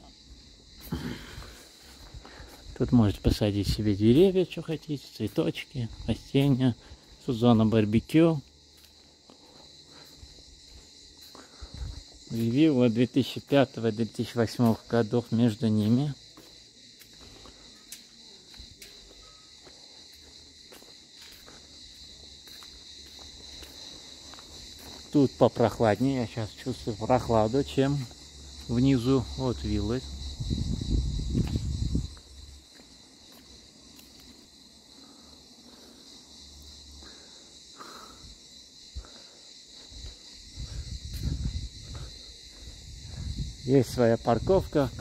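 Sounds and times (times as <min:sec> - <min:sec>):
footsteps on paving: 0:00.0 - 0:45.0
high-pitched insect chorus: 0:00.0 - 0:45.0.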